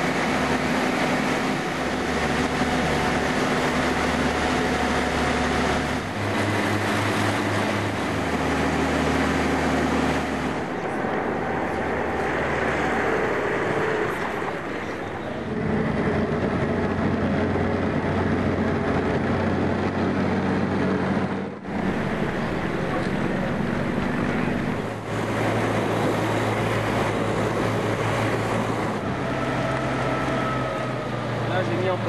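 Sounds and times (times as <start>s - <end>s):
boat engines running: 0.0s - 32.0s
wake rushing: 0.0s - 32.0s
wind: 0.0s - 32.0s.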